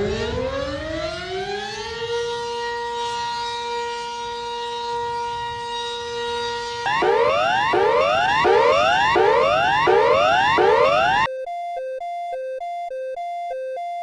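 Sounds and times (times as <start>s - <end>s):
civil defense siren: 0.0s - 11.3s.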